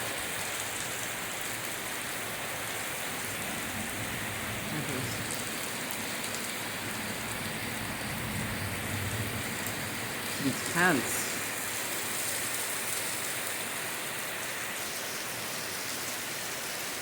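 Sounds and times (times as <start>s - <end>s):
water running down mountainside: 0.0s - 17.0s.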